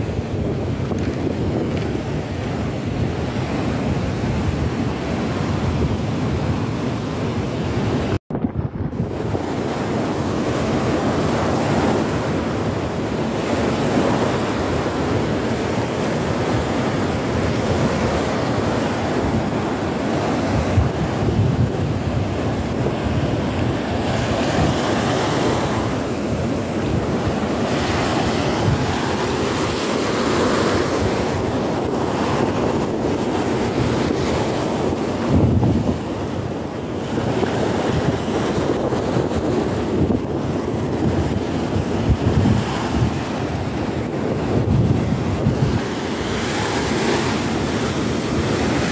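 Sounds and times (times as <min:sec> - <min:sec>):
sea surf breaking on beach: 0:00.0 - 0:48.9
wind buffeting microphone: 0:00.0 - 0:48.9.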